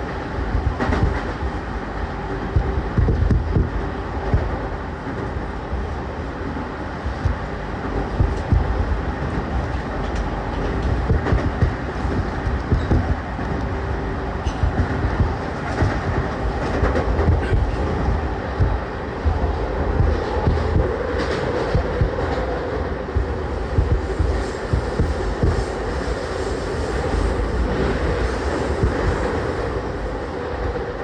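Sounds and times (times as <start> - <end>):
faint motor whine: 0.0 - 31.0
light track clicks: 0.0 - 31.0
train wheel and rail rumble: 0.0 - 31.0.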